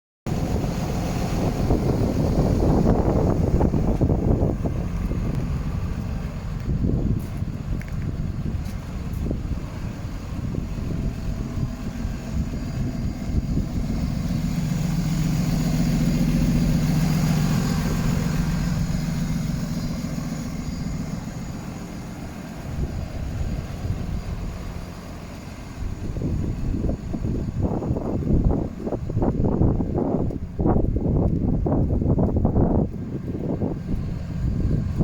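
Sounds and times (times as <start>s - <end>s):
steady outdoor rumble: 0.3s - 35.0s
vehicle engine passing by: 0.3s - 35.0s.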